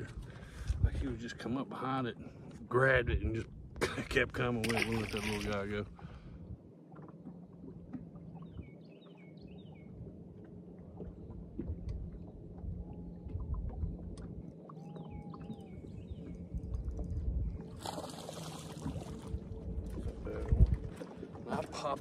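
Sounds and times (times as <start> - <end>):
faint steady hum: 0.0 - 22.0
water and wind against hull: 0.0 - 22.0.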